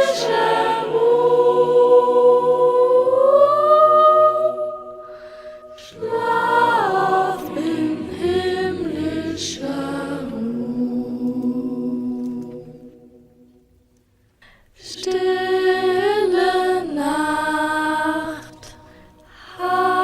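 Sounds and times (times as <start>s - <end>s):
choir singing a carol: 0.0s - 13.6s, 14.8s - 20.0s.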